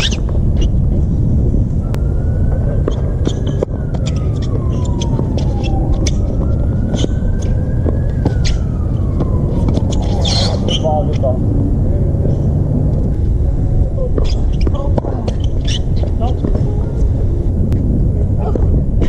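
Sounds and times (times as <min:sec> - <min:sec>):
faint siren wailing: 0:00.0 - 0:19.0
steady low rumble: 0:00.0 - 0:19.0.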